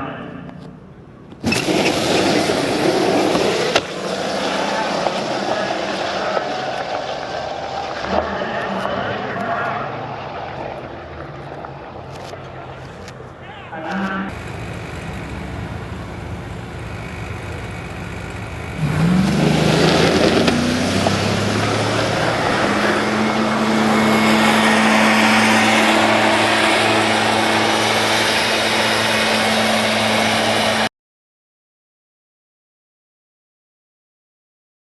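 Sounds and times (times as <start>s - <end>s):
motor vehicle humming: 0.0s - 30.9s
rushing noise: 1.4s - 30.9s.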